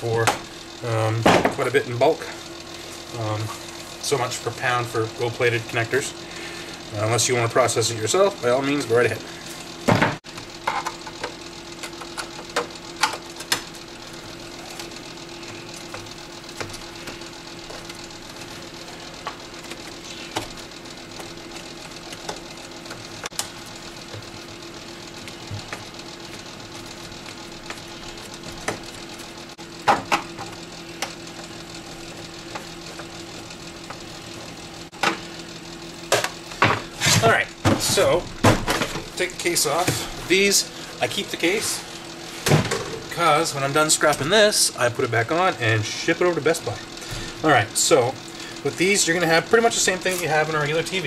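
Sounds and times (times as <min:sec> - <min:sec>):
steady machine hum: 0:00.0 - 0:51.0.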